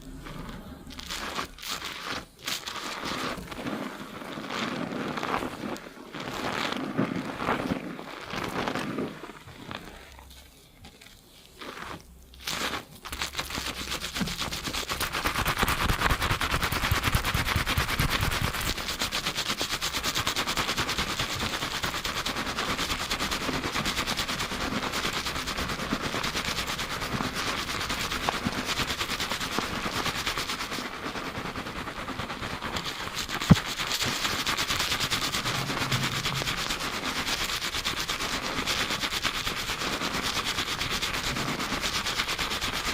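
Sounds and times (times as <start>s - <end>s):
fingers scrubbing lathered hair: 0.0s - 10.4s, 11.0s - 42.9s.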